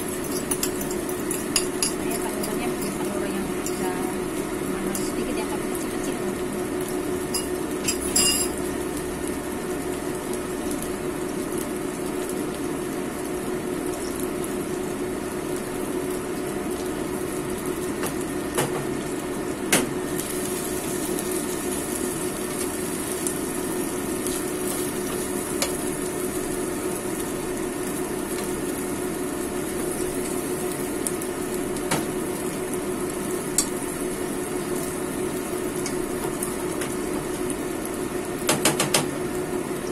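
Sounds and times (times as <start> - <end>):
omelette sizzling in pan: 0.0 - 39.9.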